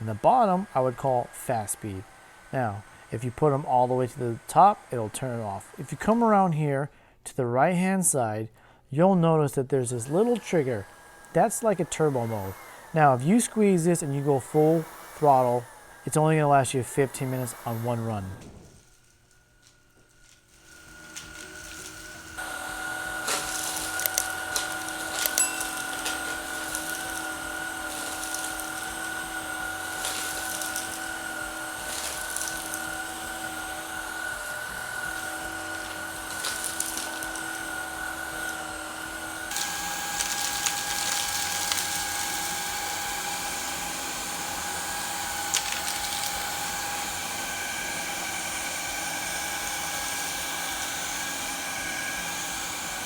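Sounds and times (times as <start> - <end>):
vacuum cleaner motor whine: 0.0 - 6.6, 9.8 - 53.0.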